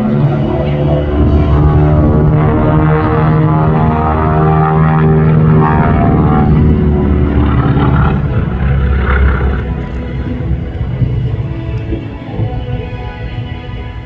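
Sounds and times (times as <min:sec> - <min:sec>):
twin propeller aircraft engines droning: 0:00.0 - 0:14.0.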